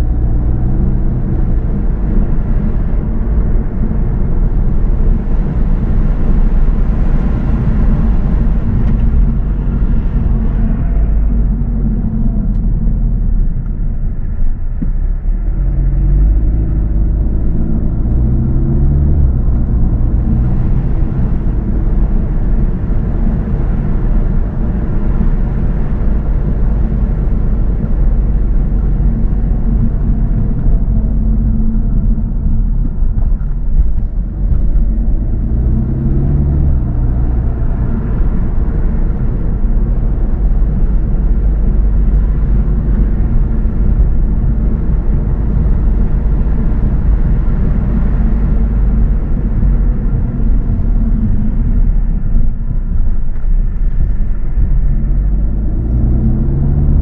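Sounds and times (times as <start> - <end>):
car engine accelerating: 0.0 - 57.0
road rumble: 0.0 - 57.0.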